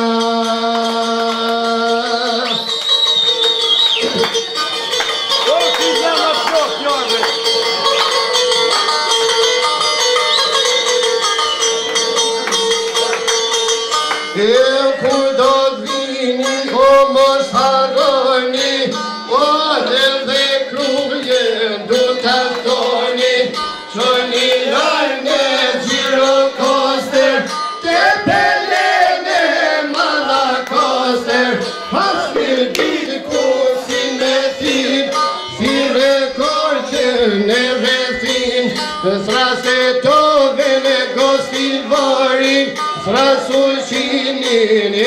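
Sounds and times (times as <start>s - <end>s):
folk melody with ornaments: 0.0s - 45.0s.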